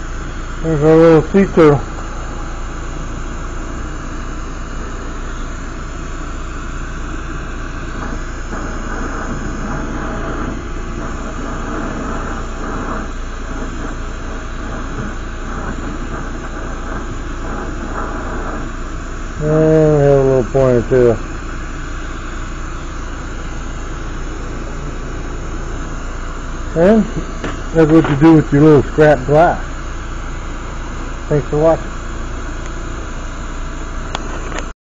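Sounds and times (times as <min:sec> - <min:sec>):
torch burning with steady hiss: 0:00.0 - 0:34.7.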